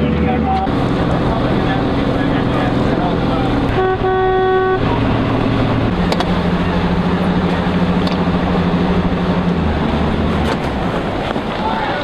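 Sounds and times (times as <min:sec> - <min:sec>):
motor boat engine: 0:00.0 - 0:12.0
rushing water noise: 0:00.0 - 0:12.0.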